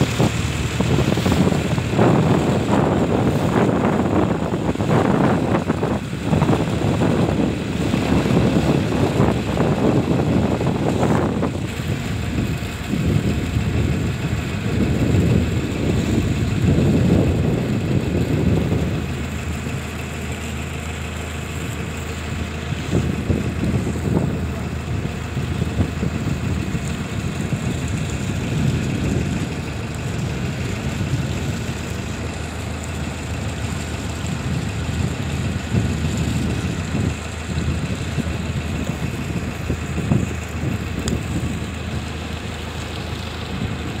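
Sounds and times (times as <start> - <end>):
motor boat engine running: 0.0 - 44.0
wind gusting on microphone: 0.0 - 44.0.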